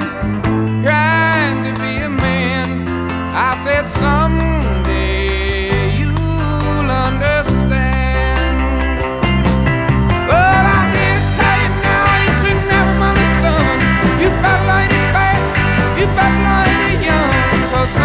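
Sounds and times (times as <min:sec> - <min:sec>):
song with band accompaniment: 0:00.0 - 0:18.0.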